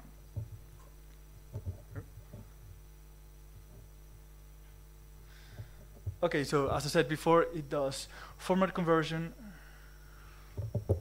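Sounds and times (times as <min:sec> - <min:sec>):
low electrical mains hum: 0:00.0 - 0:11.0.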